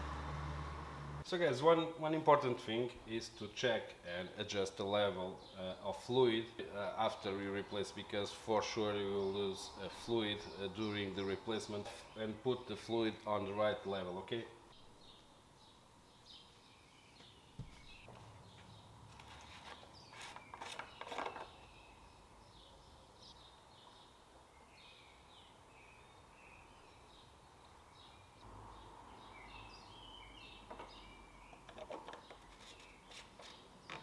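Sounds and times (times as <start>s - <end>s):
small birds chirping: 5.1s - 34.0s.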